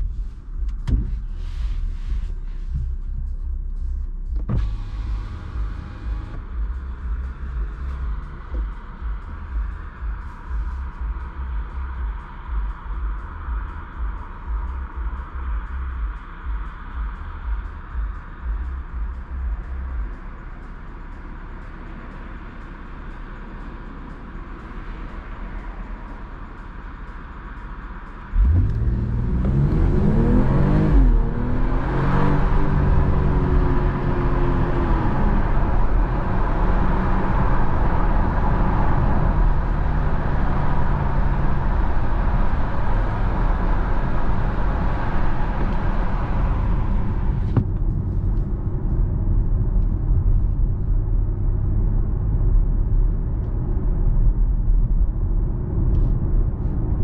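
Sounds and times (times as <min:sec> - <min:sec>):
car engine accelerating: 0:00.0 - 0:57.0
tyre and road noise: 0:00.0 - 0:57.0.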